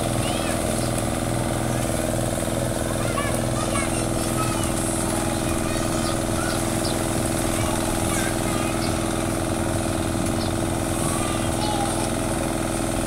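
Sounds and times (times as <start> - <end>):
steady machine drone: 0.0 - 13.0.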